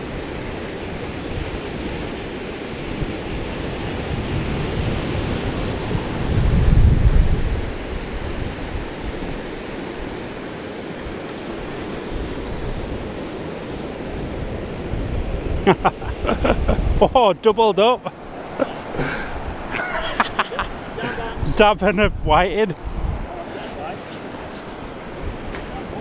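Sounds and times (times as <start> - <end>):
wind buffeting microphone: 0.0 - 17.2, 18.2 - 26.0
surf washing on beach: 0.0 - 26.0.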